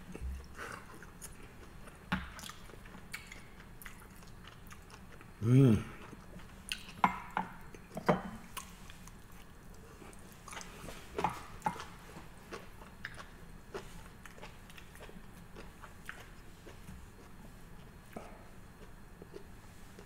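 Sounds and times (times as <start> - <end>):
person chewing with wet mouth smacks: 0.1 - 5.3, 6.0 - 7.0, 10.1 - 20.0.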